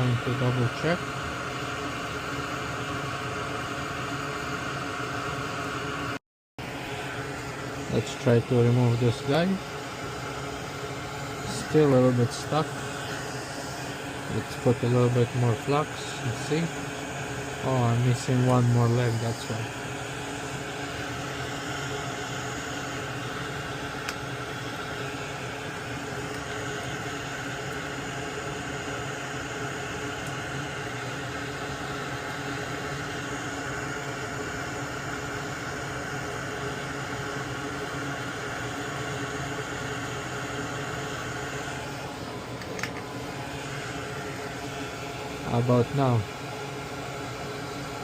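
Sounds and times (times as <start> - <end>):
electric fan motor whirring: 0.0 - 48.0.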